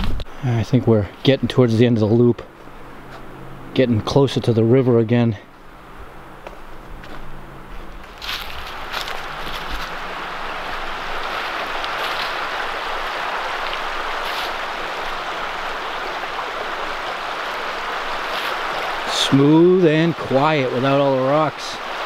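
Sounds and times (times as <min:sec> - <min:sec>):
brook running water: 0:00.3 - 0:22.0.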